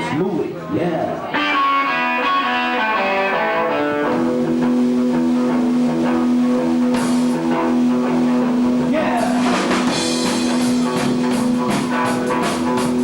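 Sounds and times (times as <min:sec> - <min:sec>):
electric guitar riff: 0:01.3 - 0:13.0.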